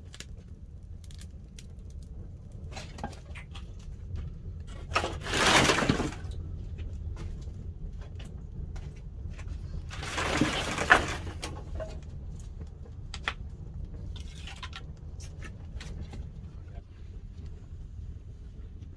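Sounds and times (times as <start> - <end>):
fire burning with low rumble: 0.0 - 18.9
fire crackles: 0.0 - 18.9
rushing swells of fire: 0.0 - 18.9.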